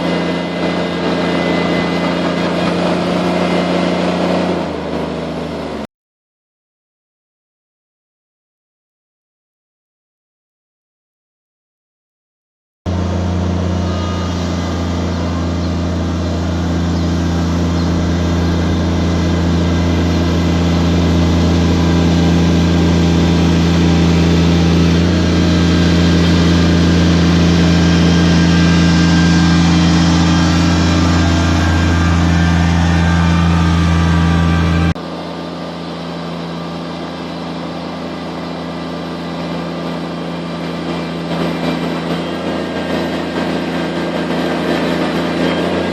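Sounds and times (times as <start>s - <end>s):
diesel tractor engine under load: 0.0s - 5.9s, 12.9s - 45.9s.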